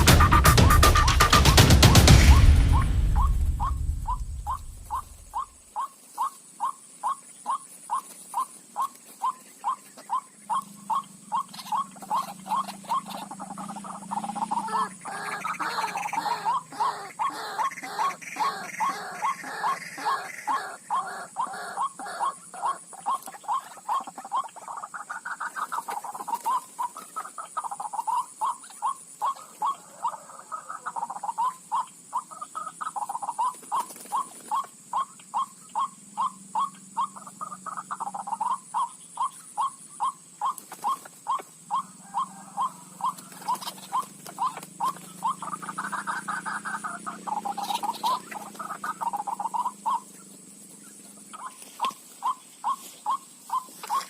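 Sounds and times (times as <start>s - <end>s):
waterhen croaking calls: 0.0s - 50.2s, 50.8s - 54.0s.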